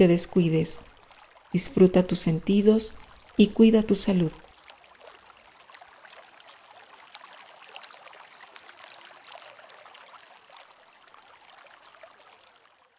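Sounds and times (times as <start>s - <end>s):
water drops pattering: 0.0s - 12.7s.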